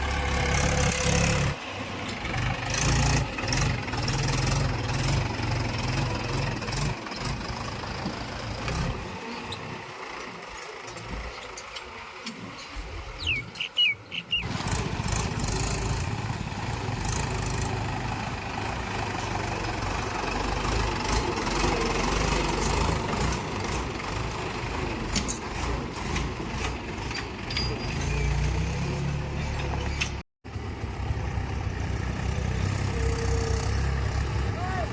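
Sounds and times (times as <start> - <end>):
diesel engine rumbling: 0.0 - 34.9.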